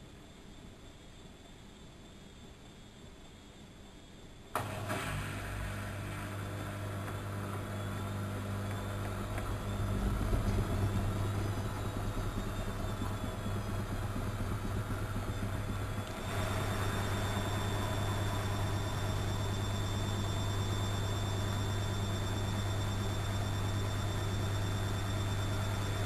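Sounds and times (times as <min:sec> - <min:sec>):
washing machine motor humming: 0:04.6 - 0:26.0.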